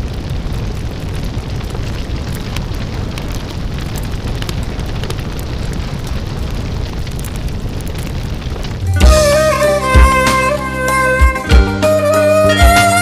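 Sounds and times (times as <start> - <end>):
vinyl record crackle and hiss: 0.0 - 13.0.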